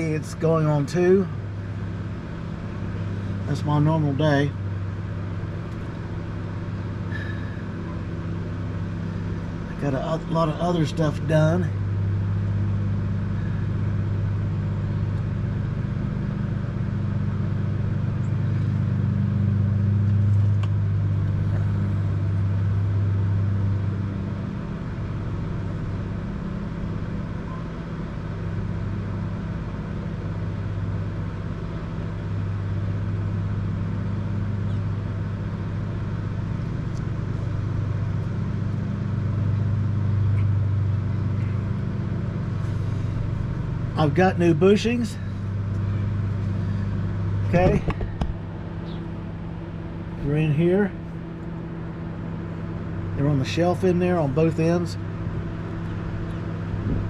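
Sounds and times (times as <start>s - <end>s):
low mechanical drone: 0.0s - 57.0s.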